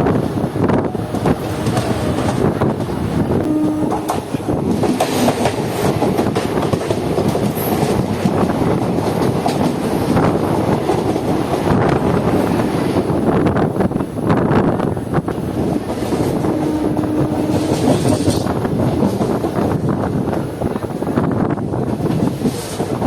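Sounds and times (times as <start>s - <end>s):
train wheels clattering over rail joints: 0.1s - 23.0s.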